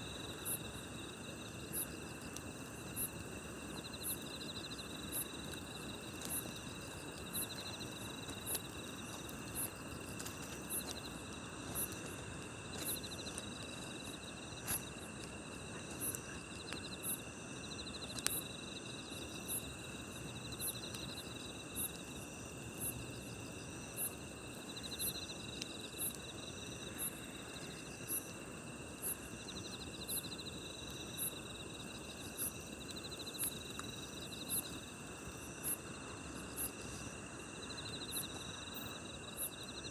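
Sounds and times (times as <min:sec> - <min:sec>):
campfire crackling: 0:00.0 - 0:39.4
crickets chirping: 0:00.0 - 0:39.9
insects trilling: 0:00.0 - 0:39.9.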